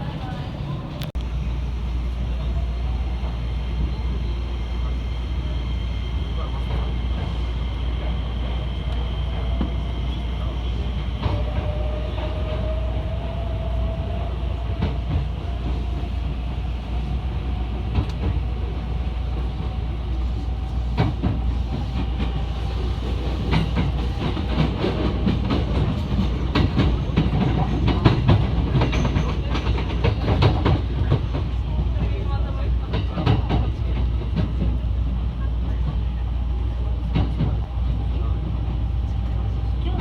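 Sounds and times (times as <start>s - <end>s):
train rumble: 0.0s - 40.0s.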